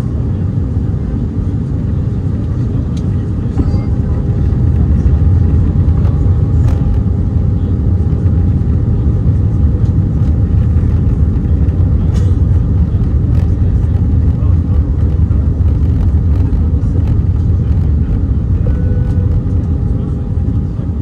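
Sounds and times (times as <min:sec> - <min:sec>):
airflow and jet engine rumble: 0:00.0 - 0:21.0.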